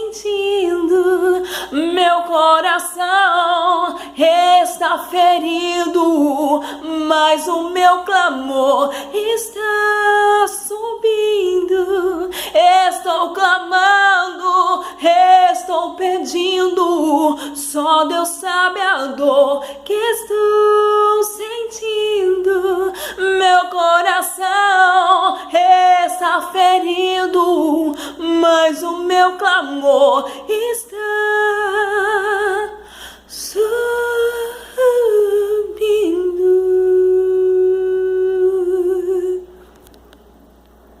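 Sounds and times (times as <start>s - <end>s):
woman singing unaccompanied: 0.0s - 39.6s.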